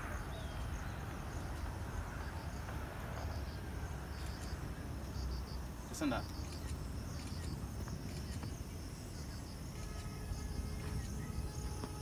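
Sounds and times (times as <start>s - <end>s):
insects chirping in high pulses: 0.0s - 12.0s.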